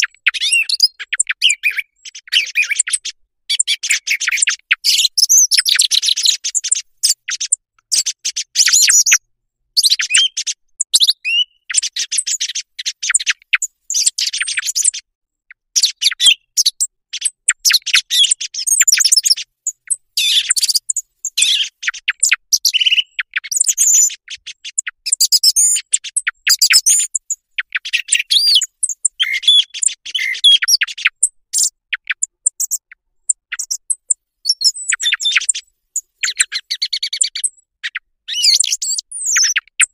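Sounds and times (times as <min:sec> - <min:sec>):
song thrush singing: 0:00.0 - 0:39.9.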